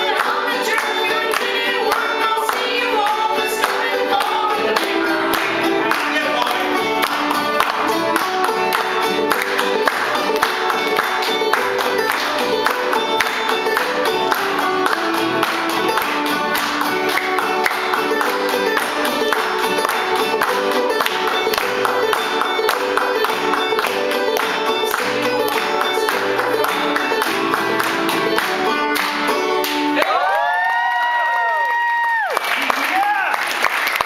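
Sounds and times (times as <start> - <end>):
banjo plucking: 0.0 - 30.0
acoustic guitar accompaniment: 0.0 - 30.4.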